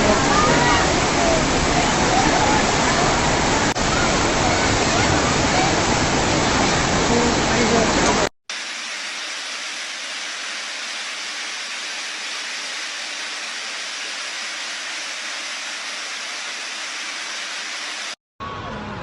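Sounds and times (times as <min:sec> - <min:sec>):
water rushing: 0:00.0 - 0:18.2.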